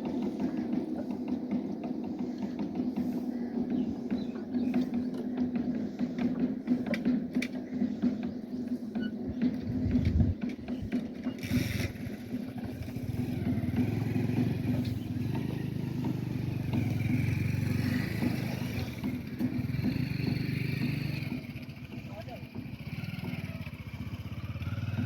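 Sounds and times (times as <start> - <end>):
old diesel engine running: 0.0 - 25.0.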